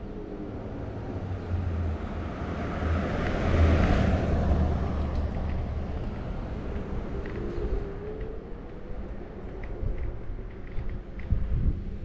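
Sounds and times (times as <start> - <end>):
low road rumble: 0.0 - 12.0
wind noise: 0.0 - 12.0.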